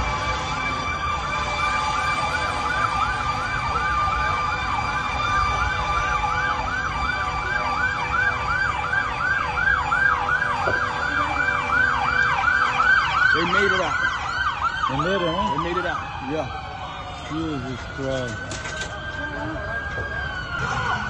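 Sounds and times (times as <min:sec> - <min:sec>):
emergency vehicle siren yelping: 0:00.0 - 0:21.0.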